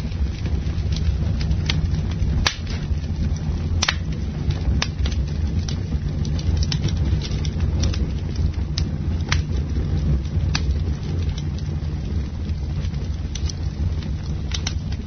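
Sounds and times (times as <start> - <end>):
low fire rumble: 0.0 - 15.0
wood crackling and popping: 0.0 - 15.0.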